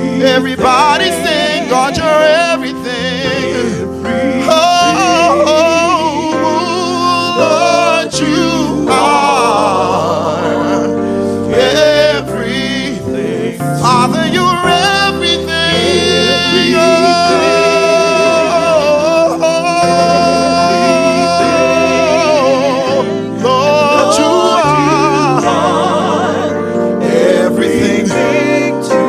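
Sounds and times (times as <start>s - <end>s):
instrumental accompaniment: 0.0s - 29.0s
person singing with vibrato: 0.0s - 29.0s.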